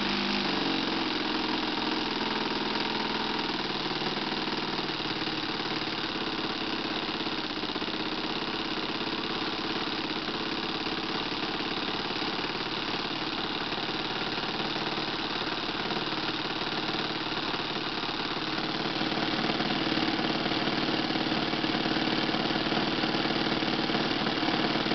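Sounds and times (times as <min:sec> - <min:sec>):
model airplane engine running: 0:00.0 - 0:24.9.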